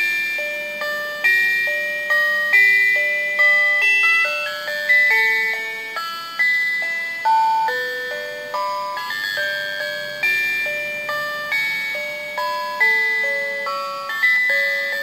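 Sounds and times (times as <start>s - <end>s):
music box waltz melody: 0.0s - 15.0s.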